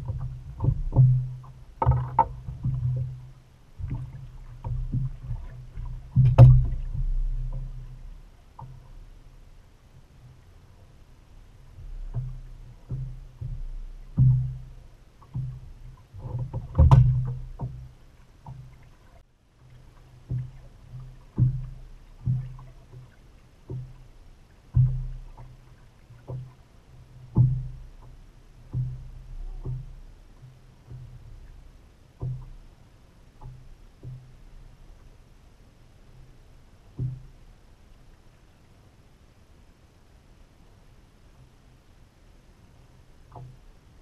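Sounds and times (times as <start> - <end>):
waves slapping against boat hull: 0.0 - 39.7, 42.7 - 44.0.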